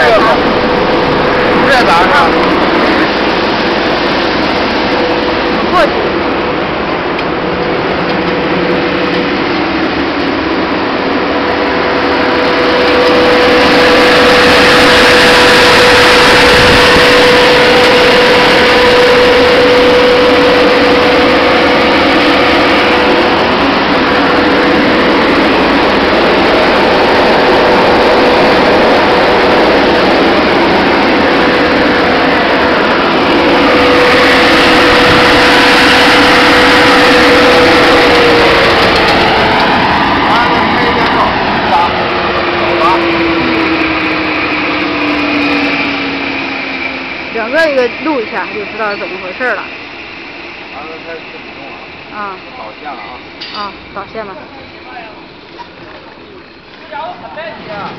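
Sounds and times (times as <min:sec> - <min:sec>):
machine motor and fan whining: 0:00.0 - 0:57.9.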